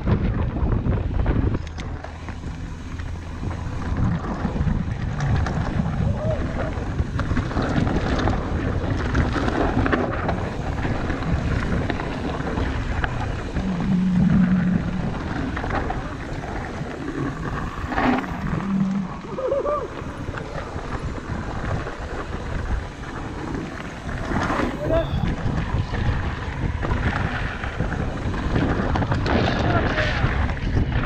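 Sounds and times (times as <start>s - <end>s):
tyre noise on dirt: 0.0s - 31.0s
wind over microphone: 0.0s - 31.0s.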